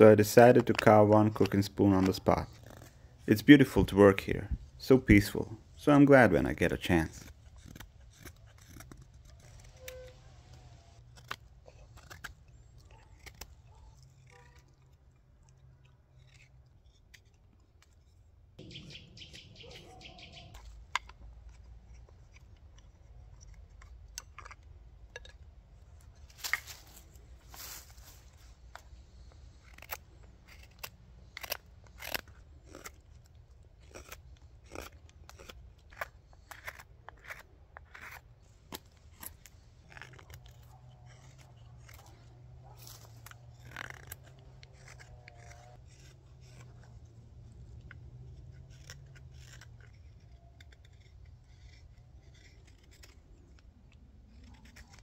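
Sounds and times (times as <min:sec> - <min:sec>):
knife carving wood: 0:00.0 - 0:55.0.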